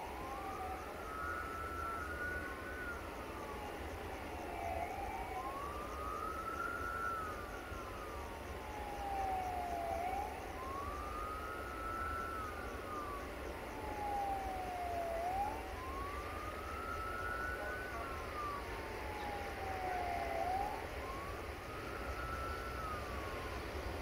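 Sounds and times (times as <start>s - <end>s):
emergency siren wailing: 0.0s - 24.0s.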